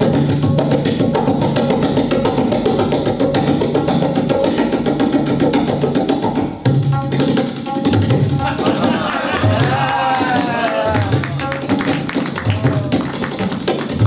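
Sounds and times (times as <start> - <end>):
tabla playing fast strokes: 0.0 - 14.0.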